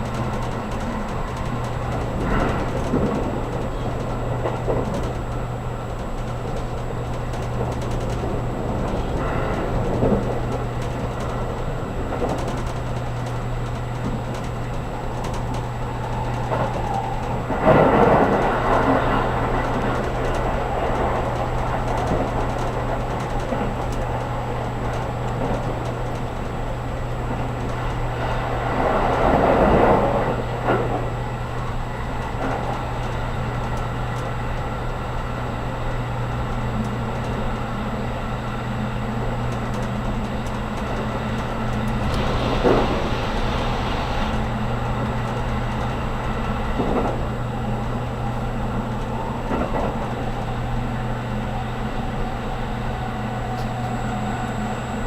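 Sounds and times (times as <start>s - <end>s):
rushing rumble of train: 0.0s - 55.0s
train interior hum: 0.0s - 55.0s.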